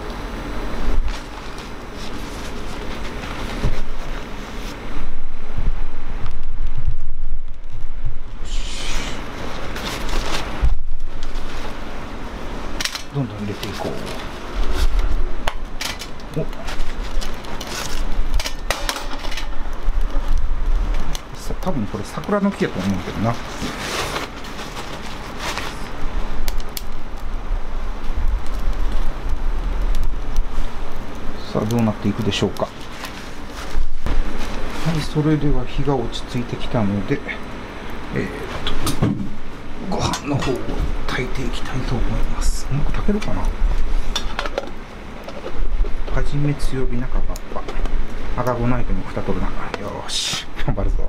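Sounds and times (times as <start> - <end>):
wood crackling in stove: 0.0 - 51.0.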